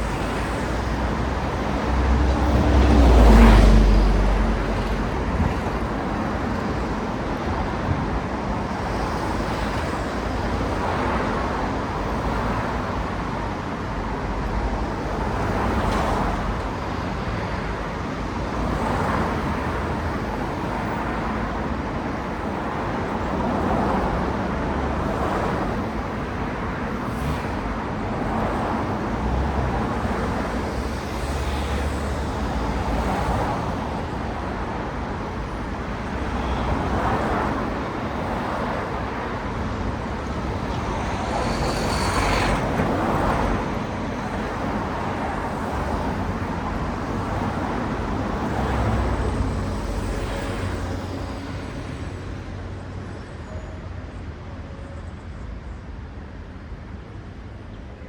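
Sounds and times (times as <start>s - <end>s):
cars passing: 0.0s - 53.2s
constant traffic hum: 0.0s - 58.0s.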